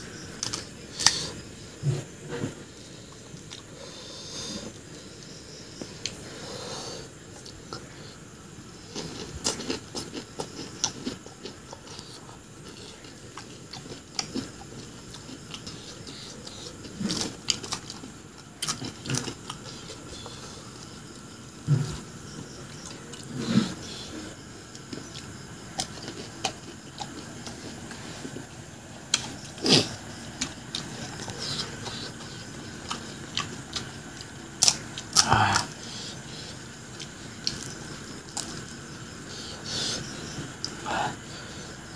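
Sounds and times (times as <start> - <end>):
chewing: 0.2 - 6.4, 8.8 - 41.9.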